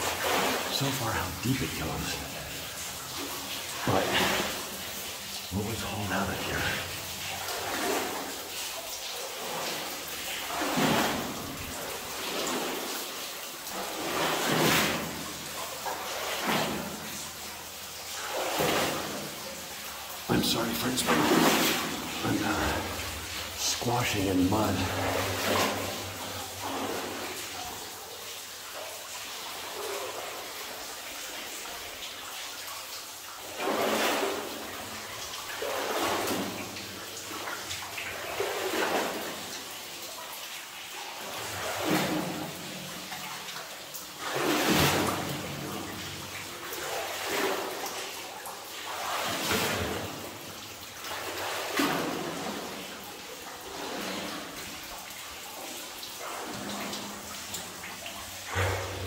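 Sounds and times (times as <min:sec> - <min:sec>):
water sloshing around legs: 0:00.0 - 0:59.0.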